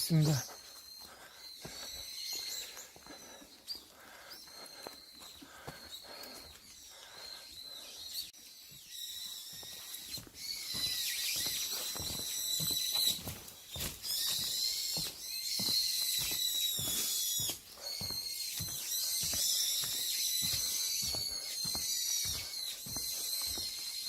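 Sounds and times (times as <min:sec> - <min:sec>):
footsteps on forest path: 0:00.0 - 0:24.0.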